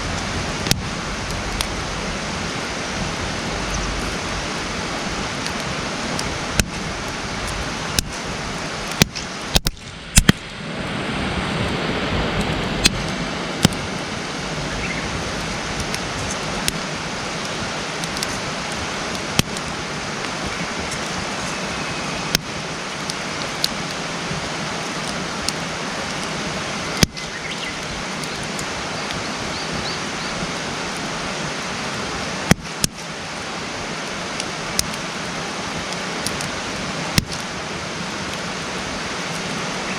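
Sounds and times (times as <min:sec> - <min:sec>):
fire pops and crackles: 0:00.0 - 0:10.6, 0:12.4 - 0:39.9
campfire flames hissing: 0:00.0 - 0:39.9.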